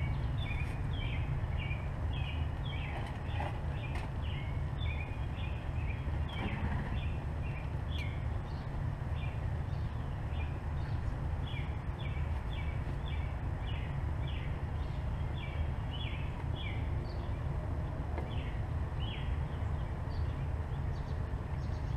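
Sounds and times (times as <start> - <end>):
low background rumble: 0.0 - 21.9.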